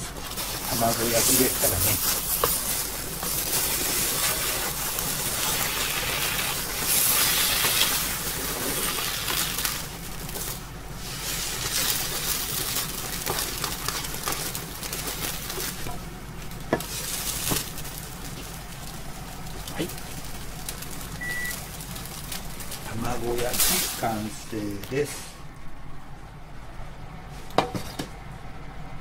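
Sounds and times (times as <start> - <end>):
eggs sizzling in frying pan: 0.0 - 25.6.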